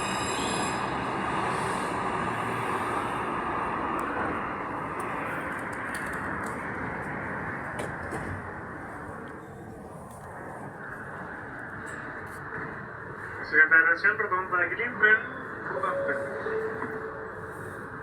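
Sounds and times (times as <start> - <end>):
train rolling rumble: 0.0 - 18.0.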